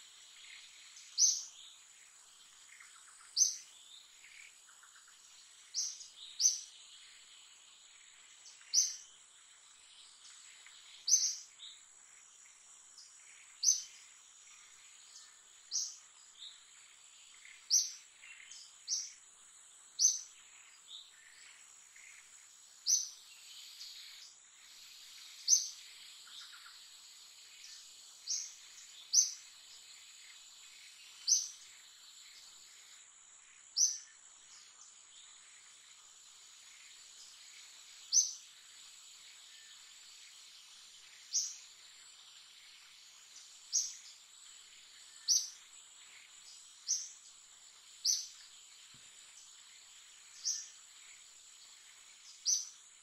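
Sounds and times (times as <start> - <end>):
bird chirping: 0.0 - 53.0.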